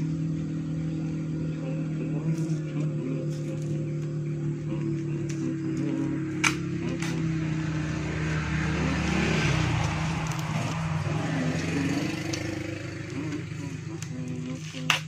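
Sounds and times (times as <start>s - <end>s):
vehicle engine passing: 0.0s - 15.0s.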